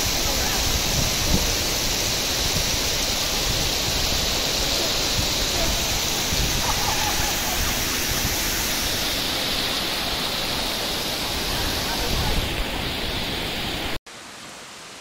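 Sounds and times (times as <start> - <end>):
waterfall rushing onto rocks: 0.0 - 15.0.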